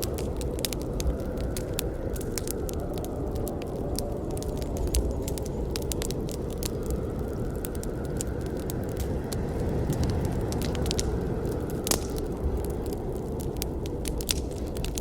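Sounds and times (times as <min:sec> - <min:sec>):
campfire crackling and popping: 0:00.0 - 0:15.0
low rustle of flames: 0:00.0 - 0:15.0.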